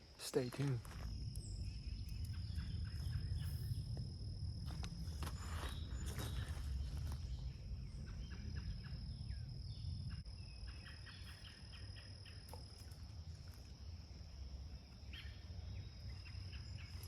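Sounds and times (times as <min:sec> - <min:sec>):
insects droning: 0:00.0 - 0:17.0
short insect chirps: 0:00.0 - 0:17.0.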